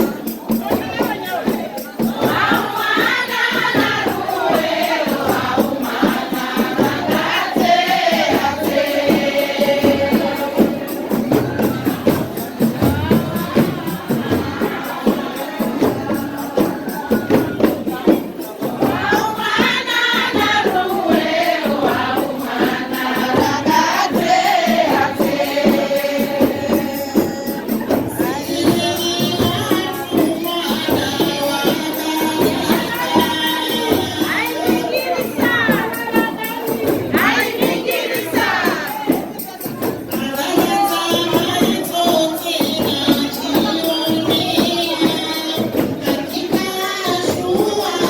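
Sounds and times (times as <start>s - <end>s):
hand percussion: 0.0s - 48.0s
jingling tambourines: 0.0s - 48.0s
voices singing together: 0.0s - 48.0s.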